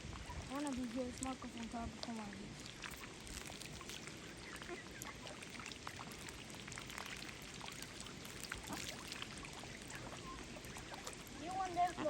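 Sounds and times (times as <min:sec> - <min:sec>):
ducks splashing in water: 0:00.0 - 0:12.0.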